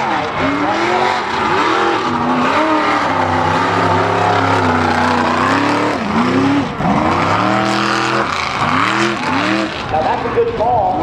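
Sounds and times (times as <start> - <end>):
truck engine revving: 0.0 - 10.7.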